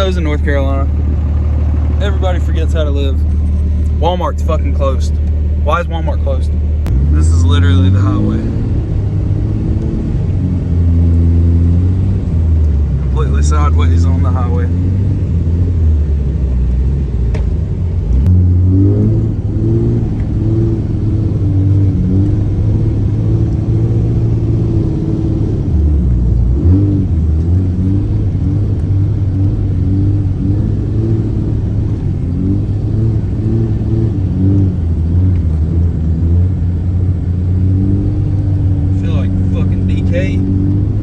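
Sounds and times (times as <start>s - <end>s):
diesel pickup engine revving: 0.0s - 41.0s.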